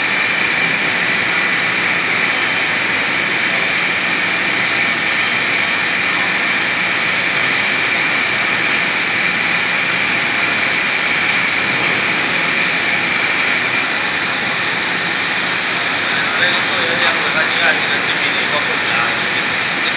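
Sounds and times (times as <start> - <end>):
faint high whining: 0.0 - 19.9
paint sprayer hissing: 0.0 - 19.9.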